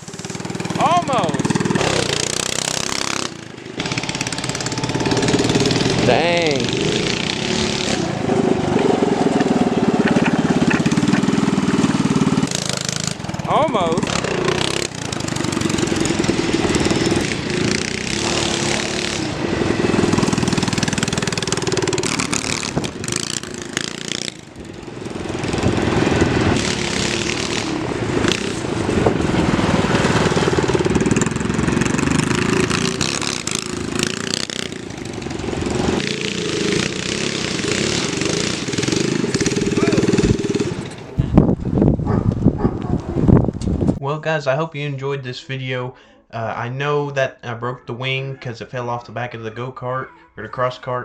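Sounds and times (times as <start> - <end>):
go-kart engine revving: 0.0 - 41.4.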